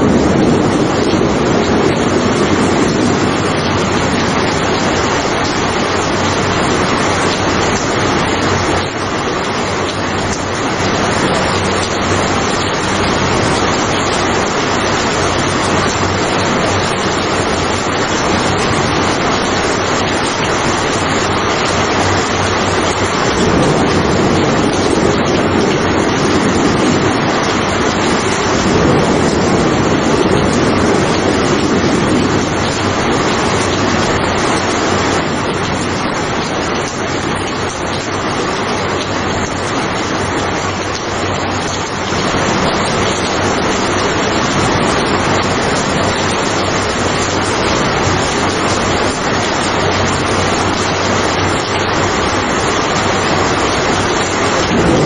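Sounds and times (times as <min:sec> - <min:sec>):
low rumbles of thunder: 0:00.0 - 0:55.0
steady rain: 0:00.0 - 0:55.0.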